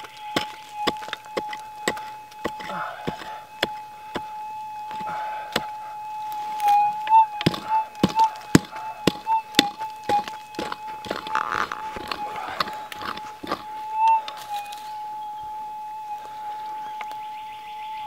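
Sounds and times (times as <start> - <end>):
metal detector warbling tone: 0.0 - 18.0.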